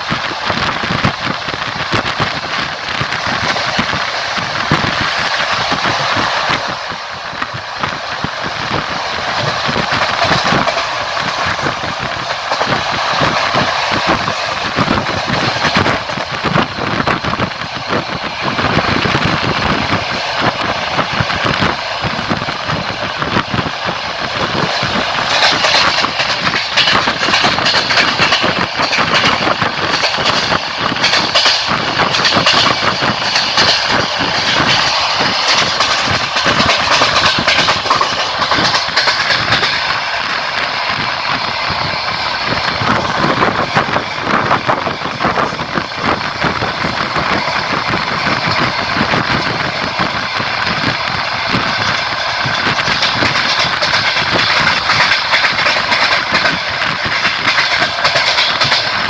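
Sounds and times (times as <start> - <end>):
train rolling rumble: 0.0 - 59.0
wheels clattering over rails: 0.0 - 59.0.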